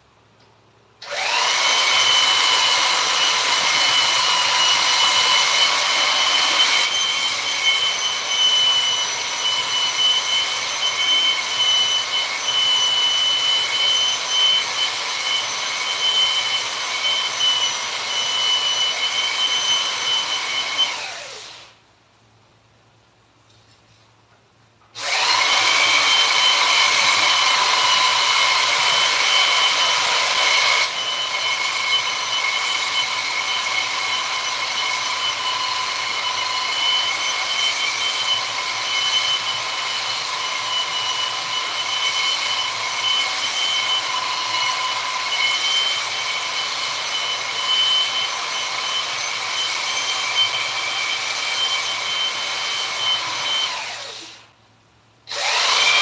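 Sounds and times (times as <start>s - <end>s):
rotary power tool whining on wood: 1.0s - 21.8s, 25.0s - 54.5s, 55.3s - 56.0s.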